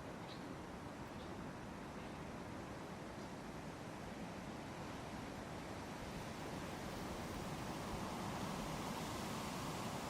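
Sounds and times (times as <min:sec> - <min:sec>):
wind rustling through leaves: 0:00.0 - 0:10.0.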